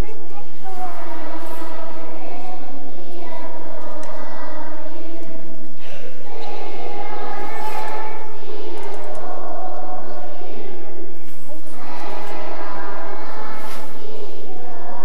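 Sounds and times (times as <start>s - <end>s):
children's choir singing: 0.0s - 15.0s
steady low hum: 0.0s - 15.0s.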